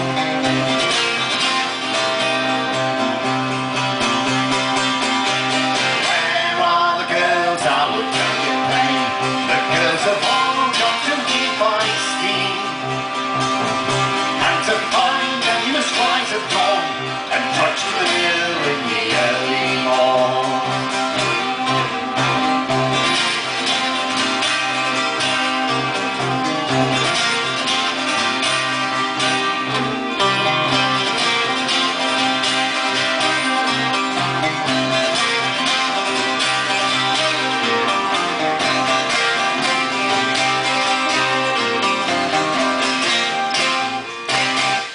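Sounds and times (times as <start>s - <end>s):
plucked string instrument: 0.0s - 44.9s
strummed acoustic guitars: 0.0s - 44.9s.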